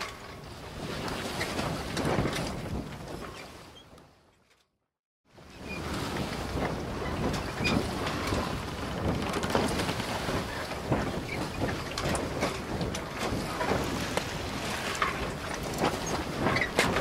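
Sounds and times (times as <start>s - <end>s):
wind rumbling on microphone: 0.0s - 4.2s, 5.3s - 17.0s
water lapping: 0.1s - 3.9s, 5.5s - 17.0s.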